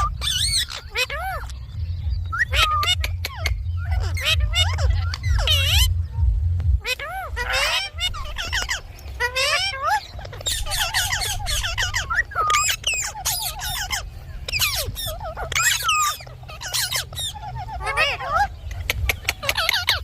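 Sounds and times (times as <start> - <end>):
parakeet squawking and chattering: 0.0 - 20.0.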